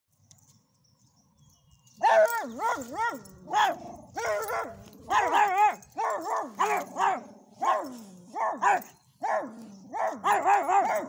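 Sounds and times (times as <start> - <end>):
small dogs yapping: 2.0 - 11.0.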